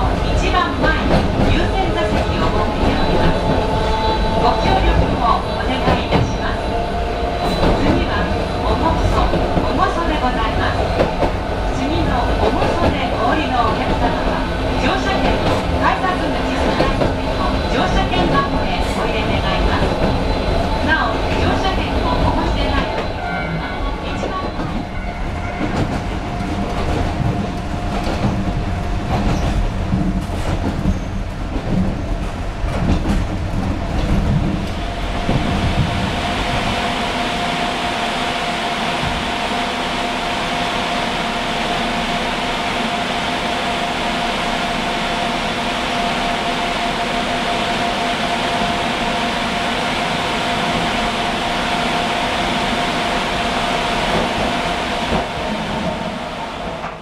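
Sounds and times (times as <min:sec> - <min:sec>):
train low rumble: 0:00.0 - 0:57.0.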